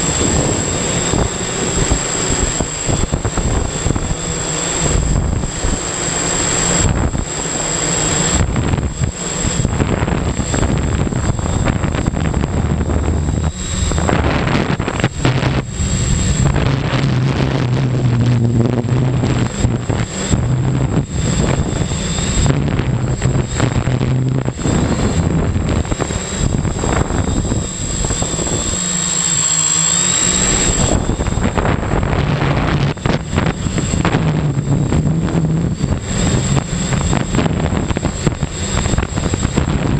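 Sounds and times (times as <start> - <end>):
drone motors humming: 0.0 - 39.9
high motor whine: 0.0 - 39.9
wind rushing over microphone: 0.0 - 39.9.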